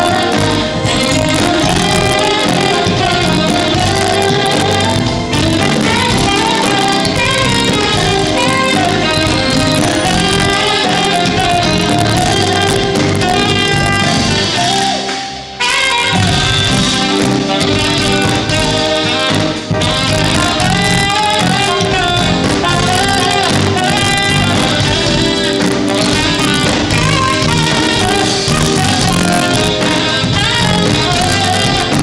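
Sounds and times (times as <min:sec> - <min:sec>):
smooth jazz band playing: 0:00.0 - 0:32.0.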